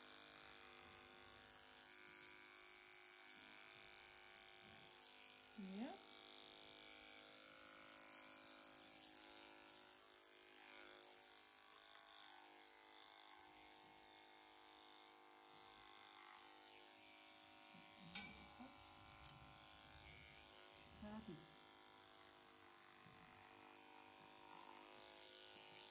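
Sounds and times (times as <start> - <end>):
electric clippers buzzing: 0.0 - 25.9.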